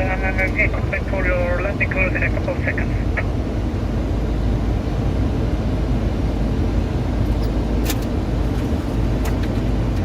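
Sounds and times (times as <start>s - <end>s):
cockpit airflow and engine rumble: 0.0s - 10.0s.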